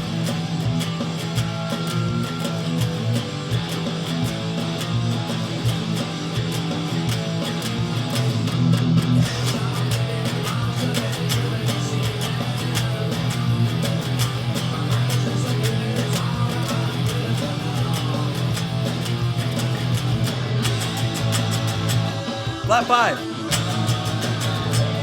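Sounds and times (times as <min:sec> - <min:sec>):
electric guitar strumming chords: 0:00.0 - 0:25.0.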